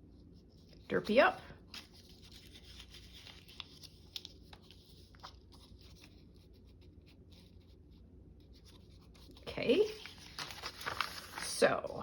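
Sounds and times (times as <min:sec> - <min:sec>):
paper rustling: 0:01.7 - 0:07.8, 0:08.4 - 0:12.0.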